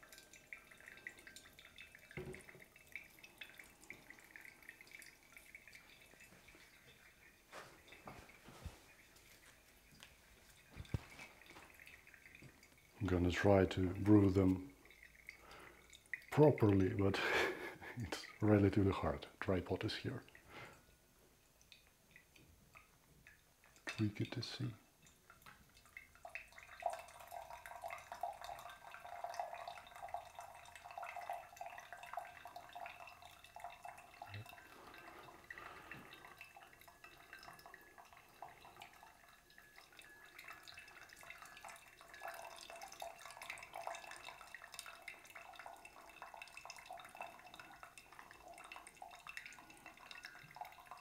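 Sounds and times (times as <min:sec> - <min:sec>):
coffee dripping into carafe: 0:00.0 - 0:17.2, 0:17.8 - 0:51.0
water pouring onto coffee grounds: 0:00.0 - 0:20.8, 0:21.7 - 0:51.0.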